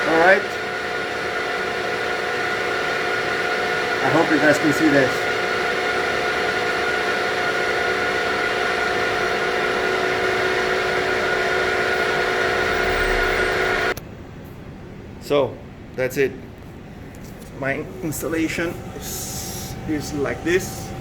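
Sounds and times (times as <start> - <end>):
spindle motor whine: 0.0 - 14.0, 16.9 - 21.0.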